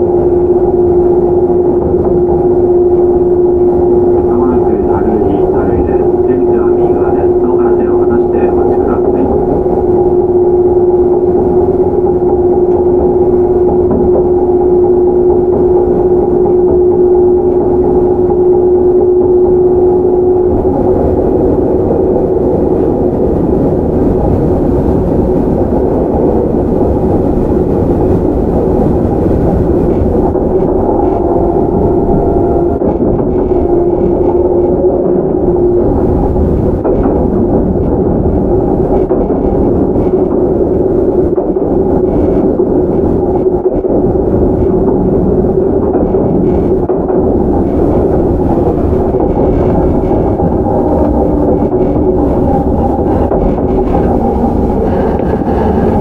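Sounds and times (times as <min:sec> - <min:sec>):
traction motor whine: 0:00.0 - 0:56.0
wheels rumbling on track: 0:00.0 - 0:56.0.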